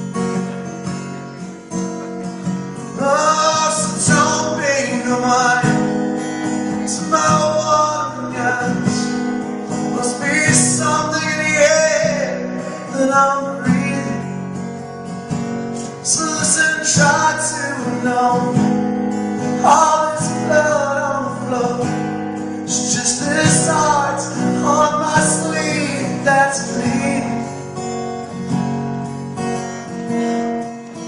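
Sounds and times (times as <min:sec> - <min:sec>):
acoustic guitar strumming: 0:00.0 - 0:31.0
man singing: 0:01.8 - 0:14.7, 0:15.6 - 0:27.8.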